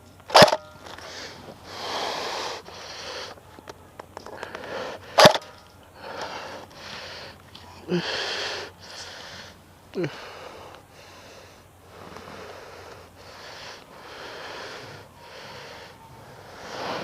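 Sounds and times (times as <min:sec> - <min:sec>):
heavy breathing: 0:00.8 - 0:03.6, 0:04.2 - 0:17.0.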